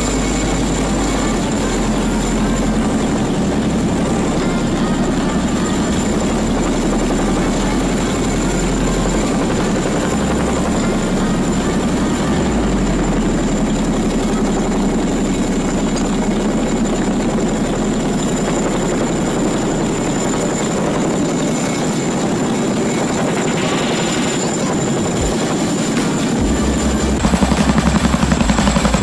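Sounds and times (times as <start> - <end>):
helicopter rotor beat: 0.0 - 29.0
high whine: 0.0 - 29.0.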